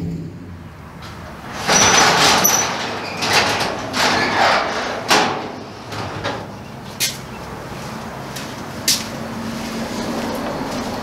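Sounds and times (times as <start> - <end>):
garage door rising: 0.0 - 8.8.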